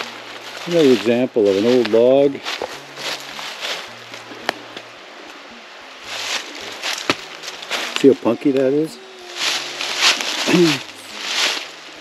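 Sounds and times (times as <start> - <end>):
dry leaves rustling and crunching: 0.0 - 5.0, 6.0 - 12.0.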